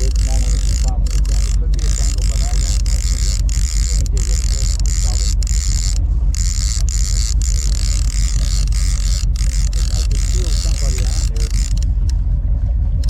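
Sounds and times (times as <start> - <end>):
faint voices: 0.0 - 12.1
boat engine rumble and hiss: 0.0 - 13.0.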